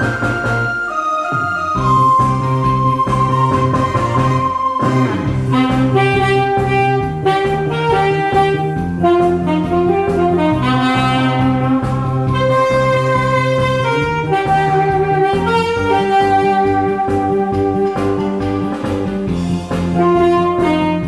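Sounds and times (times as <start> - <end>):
backing band with bass: 0.0 - 21.0
saxophone slow melody: 0.0 - 21.0.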